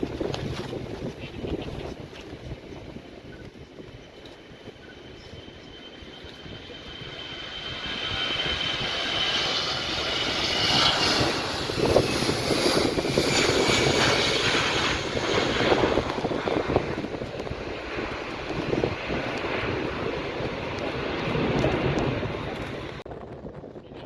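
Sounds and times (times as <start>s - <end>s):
jet engines roaring: 0.0s - 23.2s.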